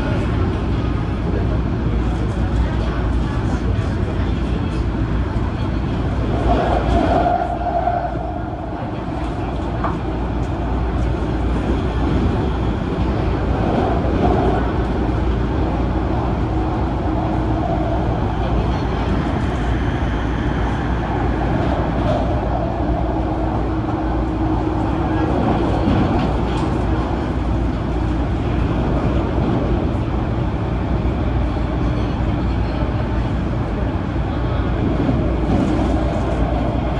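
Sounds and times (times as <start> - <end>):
electric train low rumble: 0.0 - 36.9.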